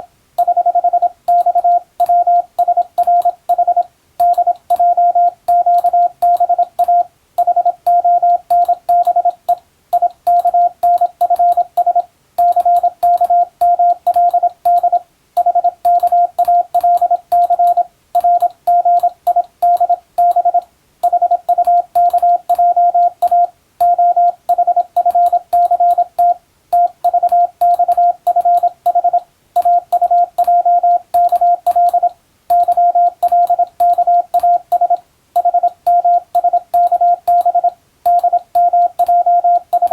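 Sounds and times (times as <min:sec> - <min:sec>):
morse code tone: 0:00.4 - 0:39.9.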